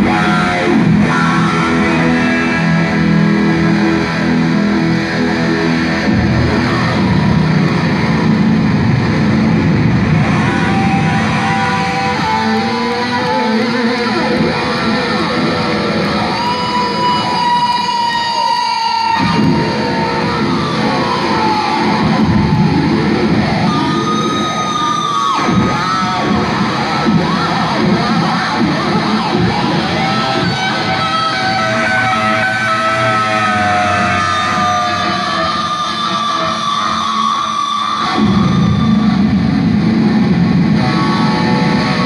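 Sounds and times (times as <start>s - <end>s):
bass and drums: 0.0s - 17.9s, 19.2s - 31.9s, 38.0s - 42.0s
lead electric guitar: 0.0s - 42.0s.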